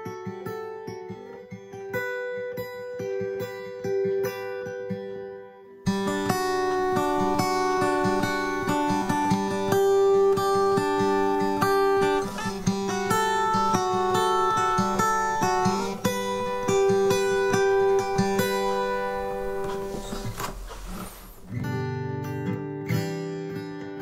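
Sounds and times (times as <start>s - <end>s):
acoustic guitar chords and notes: 0.0s - 24.0s.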